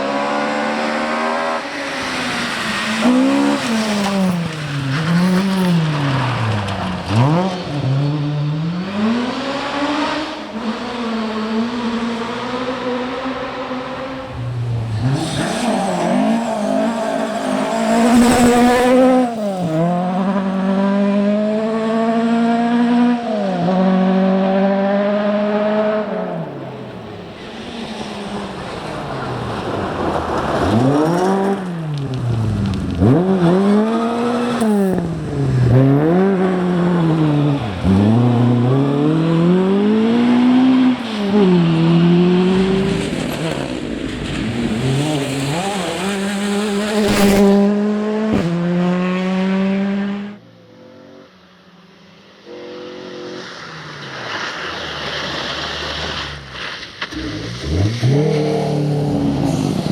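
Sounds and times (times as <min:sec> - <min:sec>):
rally car engine revving: 0:00.0 - 0:51.2, 0:52.4 - 0:59.9.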